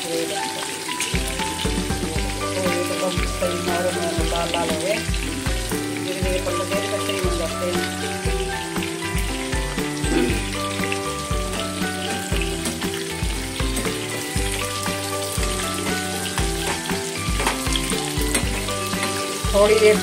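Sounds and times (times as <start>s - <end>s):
vegetables sizzling in oil: 0.0s - 20.0s
ladle turning food: 0.5s - 20.0s
music with bass beat: 1.2s - 2.6s, 4.2s - 6.6s, 7.2s - 19.7s.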